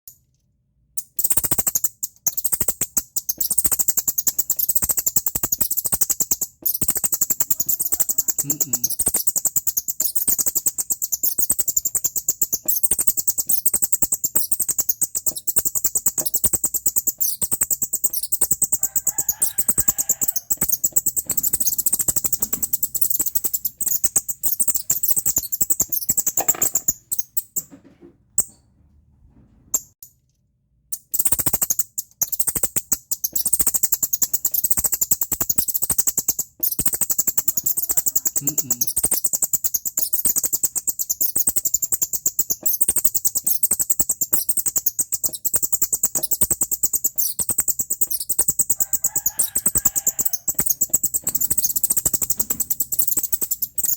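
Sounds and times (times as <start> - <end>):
rapid high-pitched chirping squeaks: 1.0 - 27.7, 29.7 - 30.0, 30.9 - 53.9.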